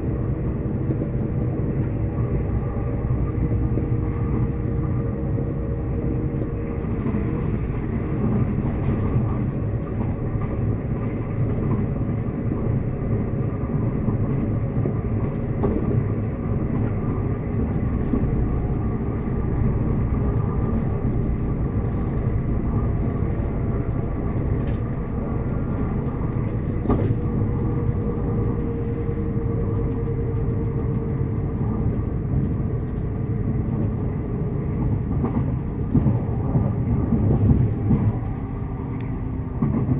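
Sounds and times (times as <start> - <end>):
train rumbling on rails: 0.0 - 39.9
rail clicks: 0.1 - 39.9.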